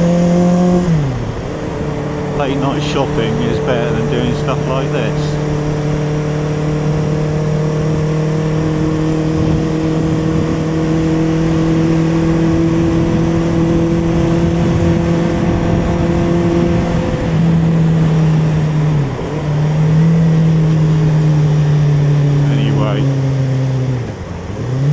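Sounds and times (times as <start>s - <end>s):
rushing noise: 0.0s - 23.2s
motorcycle engine cruising: 0.0s - 24.9s.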